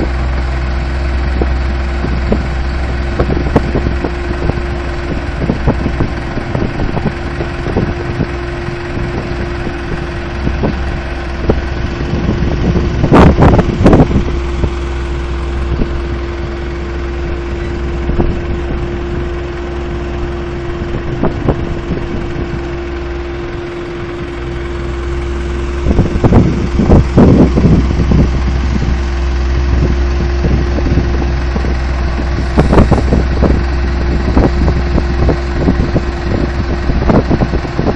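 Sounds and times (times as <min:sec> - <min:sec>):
diesel engines running: 0:00.0 - 0:37.9.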